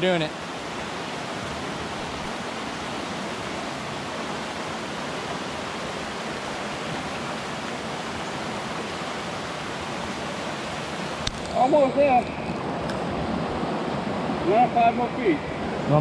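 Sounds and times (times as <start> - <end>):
river rapids rushing over rocks: 0.0 - 16.0.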